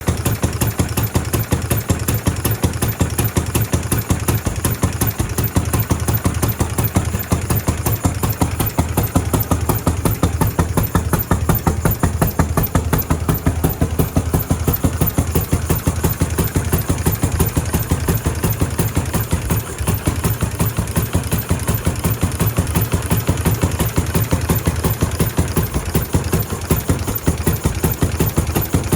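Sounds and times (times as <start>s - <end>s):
car engine chugging: 0.0s - 28.9s.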